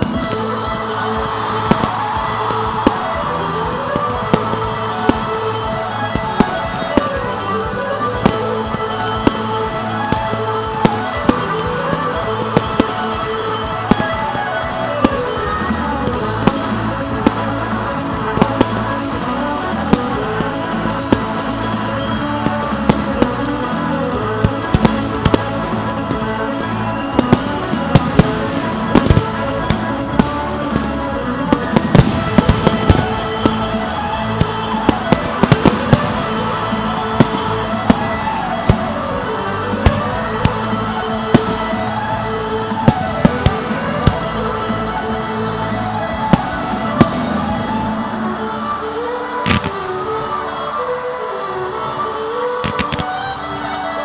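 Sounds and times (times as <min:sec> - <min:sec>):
fireworks bangs: 0:00.0 - 0:50.5, 0:52.6 - 0:53.6
loud music: 0:00.0 - 0:54.0.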